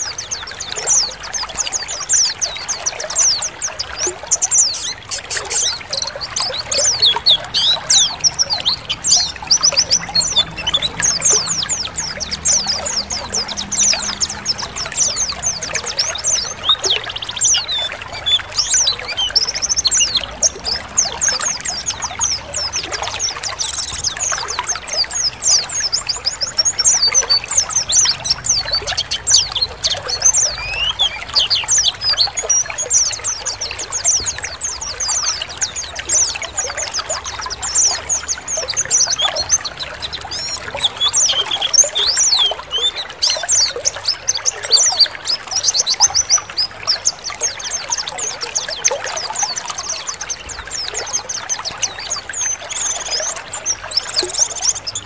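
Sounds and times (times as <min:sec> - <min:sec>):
birds chirping and twittering: 0:00.0 - 0:55.0
trickling water: 0:00.0 - 0:55.0.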